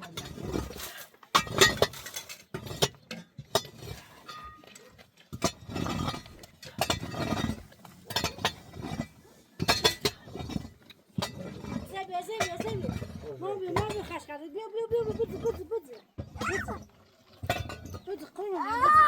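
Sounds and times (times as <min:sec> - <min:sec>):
hard objects clinking and knocking: 0:00.0 - 0:14.3, 0:14.9 - 0:18.4
rough scraping and rustling: 0:00.0 - 0:19.0.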